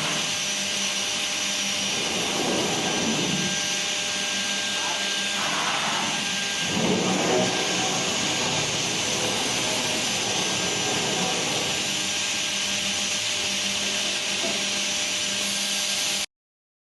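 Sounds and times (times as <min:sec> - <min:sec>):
machine whine over hiss: 0:00.0 - 0:16.3.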